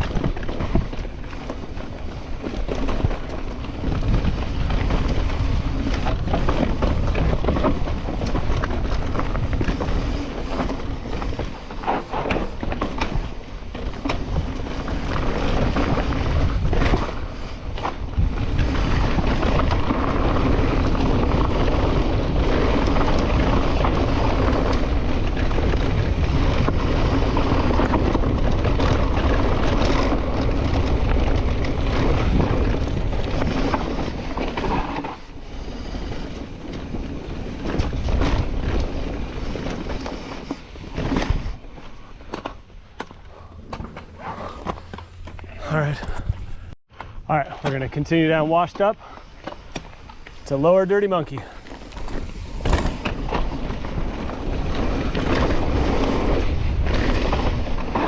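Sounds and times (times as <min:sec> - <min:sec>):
wind rushing over microphone: 0:00.0 - 0:47.3, 0:49.2 - 0:58.0
bike tyres on dirt trail: 0:00.0 - 0:58.0.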